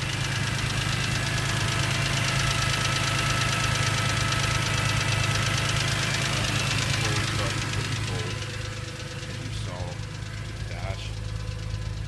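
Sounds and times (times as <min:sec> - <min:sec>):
car engine idling: 0:00.0 - 0:12.0
fast even engine ticking: 0:00.0 - 0:12.0.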